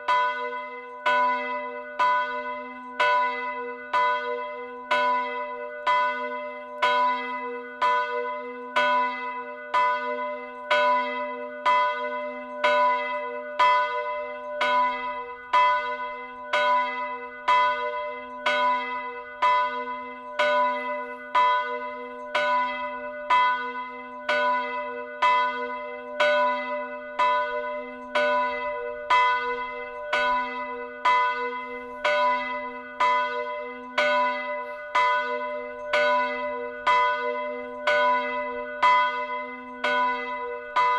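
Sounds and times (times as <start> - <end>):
church bell ringing: 0.0 - 40.9.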